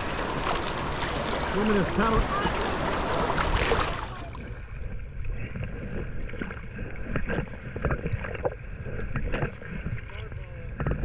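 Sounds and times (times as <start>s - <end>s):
water lapping against kayak: 0.0s - 11.0s.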